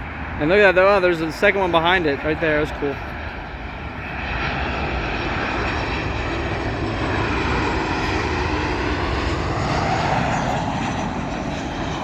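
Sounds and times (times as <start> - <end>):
jet engine noise with faint whine: 0.0 - 12.0.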